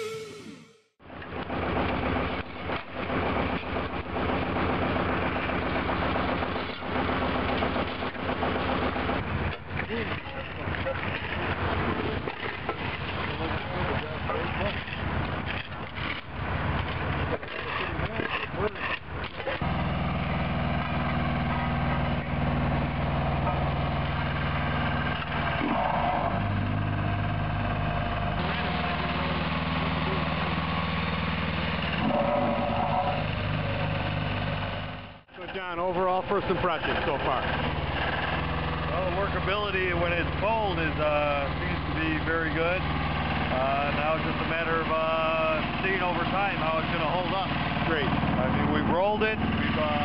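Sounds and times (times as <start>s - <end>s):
machinery engine humming: 0.0s - 50.0s.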